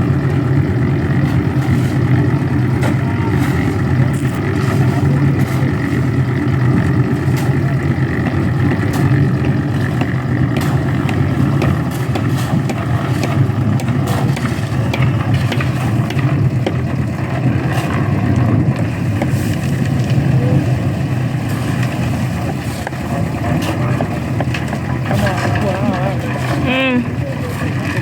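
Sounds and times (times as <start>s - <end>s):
concrete mixer engine running: 0.0s - 28.0s.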